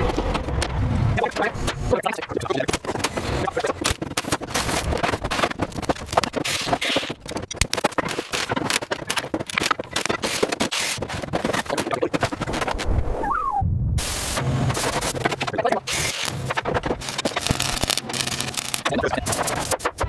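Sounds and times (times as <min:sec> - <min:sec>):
scraping and clicking: 0:00.0 - 0:12.9, 0:14.6 - 0:20.0.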